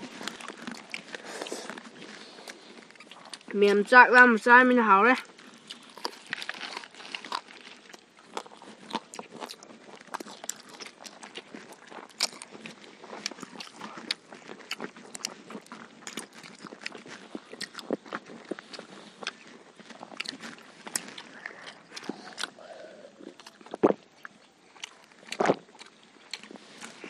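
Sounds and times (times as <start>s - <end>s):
people chewing crunchy food: 0.0s - 27.0s.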